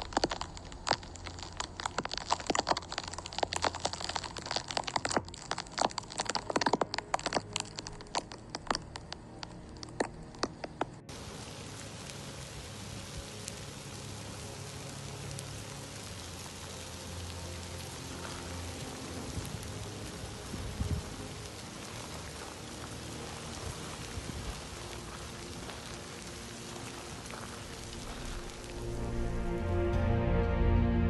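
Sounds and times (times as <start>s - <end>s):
lava front hissing: 0.0s - 29.5s
lava crust cracking: 0.0s - 29.7s.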